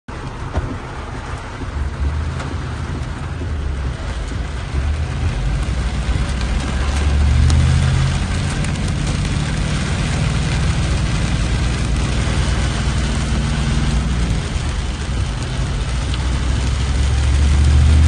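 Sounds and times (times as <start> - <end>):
heavy rain on windscreen: 0.1 - 18.0
vehicle engine running: 0.1 - 18.0.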